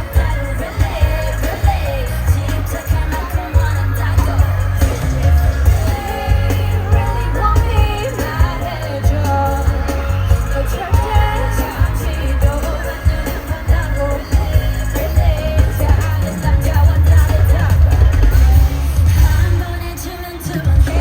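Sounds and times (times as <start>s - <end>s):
bass-heavy backing track: 0.0s - 21.0s
person singing live: 0.0s - 21.0s.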